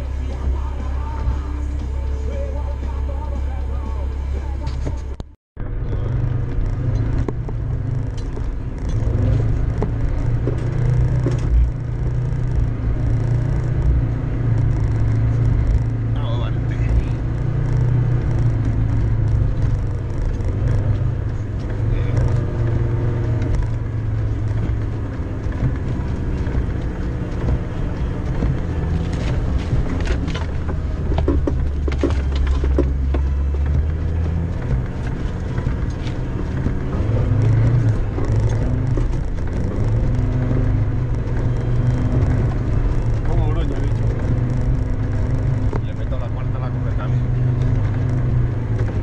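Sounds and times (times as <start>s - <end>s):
diesel engine working hard: 0.0s - 49.0s.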